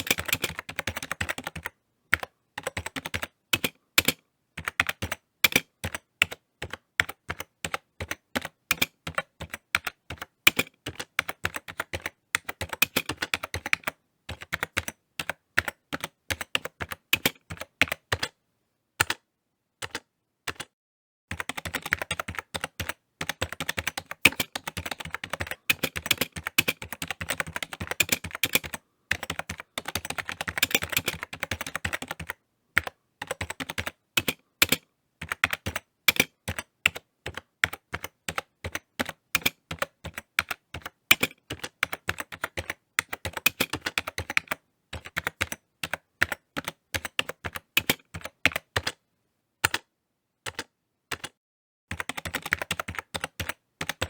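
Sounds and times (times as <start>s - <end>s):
typing on computer keyboard: 0.0s - 18.4s, 19.0s - 19.2s, 19.8s - 49.0s, 49.6s - 54.0s.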